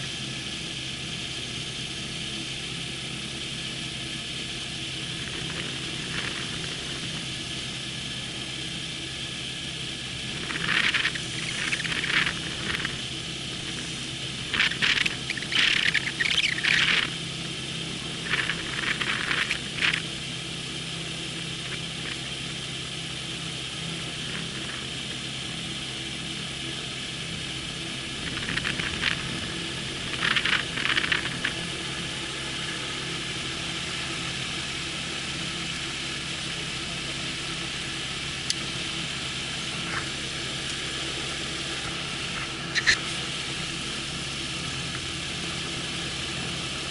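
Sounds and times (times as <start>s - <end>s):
gyroplane engine idling: 0.0s - 46.9s.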